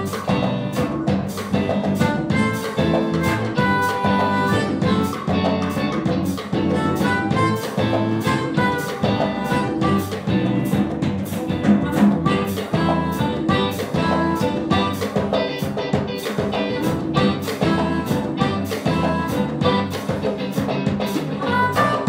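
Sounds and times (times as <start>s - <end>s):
amplified harmonica melody: 0.0s - 22.0s
drum kit beat: 0.0s - 22.0s
jazz-funk band playing: 0.0s - 22.0s.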